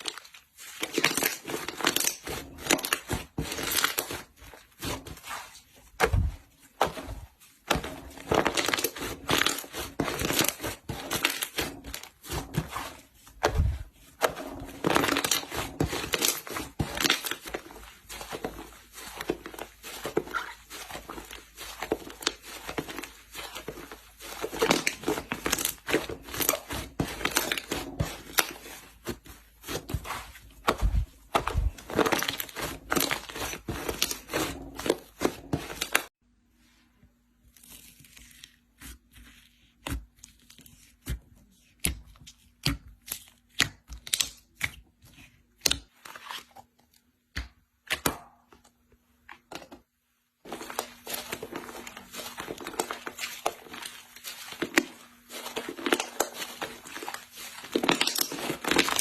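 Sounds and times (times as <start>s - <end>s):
slime squished and stretched by hand: 0.0s - 36.1s, 37.3s - 59.0s.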